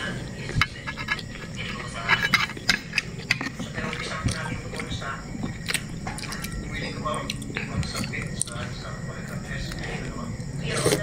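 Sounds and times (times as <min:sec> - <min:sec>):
child chewing: 0:00.0 - 0:11.0.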